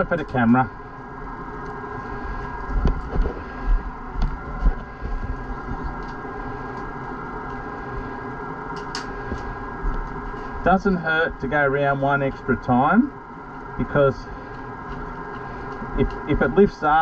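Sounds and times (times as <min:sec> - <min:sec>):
low rumbling bumps: 0:00.0 - 0:16.6
workshop machine hum: 0:00.0 - 0:17.0.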